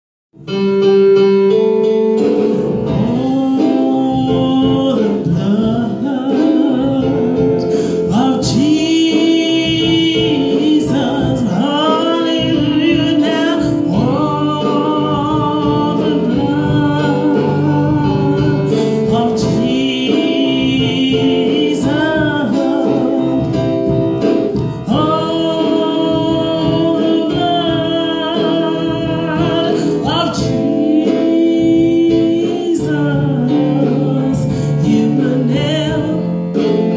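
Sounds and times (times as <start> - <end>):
instrumental accompaniment: 0.3 - 36.9
gospel singing: 2.3 - 36.9.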